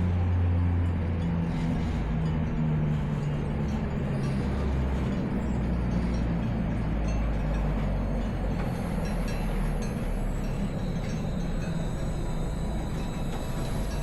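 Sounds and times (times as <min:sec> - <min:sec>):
moving train rumbling: 0:00.0 - 0:14.0.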